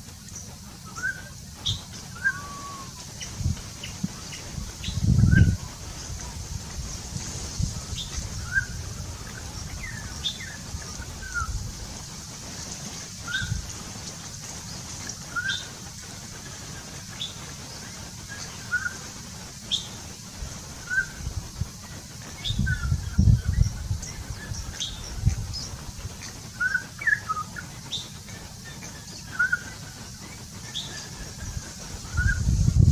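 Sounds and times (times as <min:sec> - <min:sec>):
birds chirping: 0:00.0 - 0:32.9
high-pitched hiss: 0:00.0 - 0:32.9.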